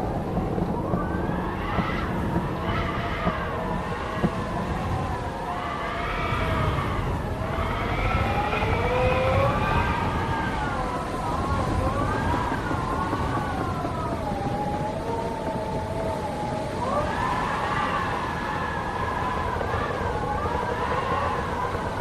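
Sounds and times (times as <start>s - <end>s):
wind howling: 0.0s - 22.0s.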